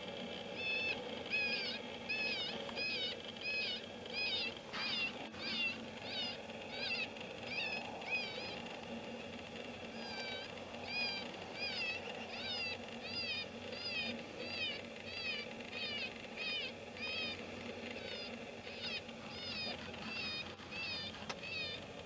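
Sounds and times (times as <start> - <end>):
high squealing distress calls: 0.4 - 22.0.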